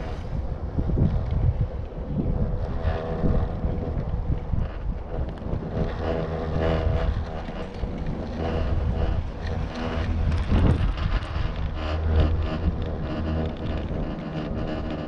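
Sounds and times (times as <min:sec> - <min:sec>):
chairlift haul rope rumble: 0:00.0 - 0:15.0.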